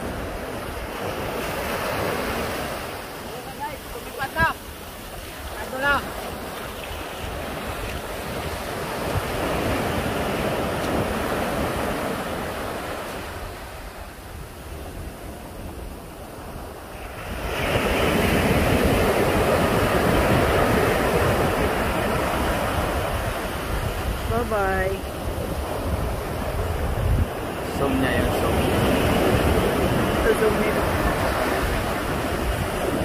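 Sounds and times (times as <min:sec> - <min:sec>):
ocean surf breaking: 0:00.0 - 0:33.0
wind rumbling on microphone: 0:00.0 - 0:33.0.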